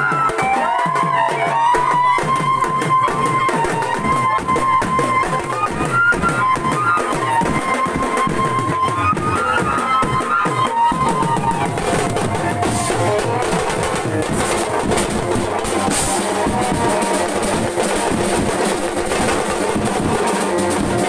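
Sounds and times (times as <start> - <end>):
steady drum beat: 0.0 - 21.0.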